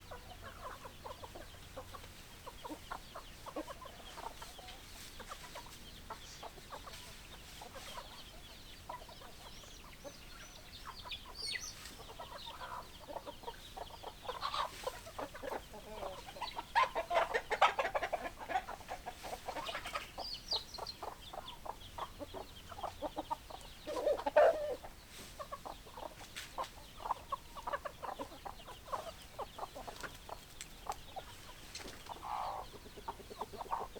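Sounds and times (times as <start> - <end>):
hens clucking: 0.0 - 33.9.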